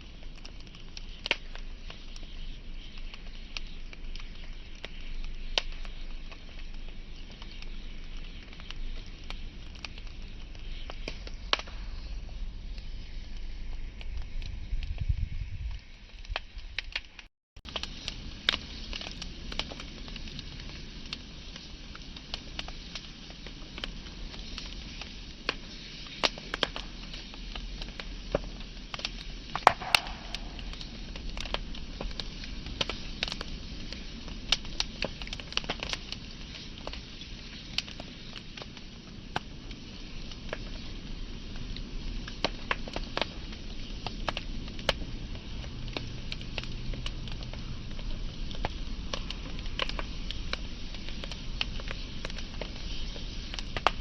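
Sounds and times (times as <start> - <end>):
fire crackles and pops: 0.0 - 54.0
wood fire rumble and hiss: 0.0 - 54.0.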